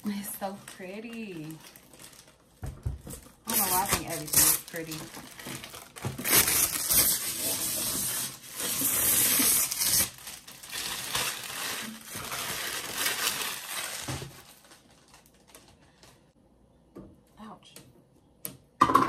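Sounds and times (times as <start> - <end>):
packaging tearing and rustling: 0.4 - 16.2.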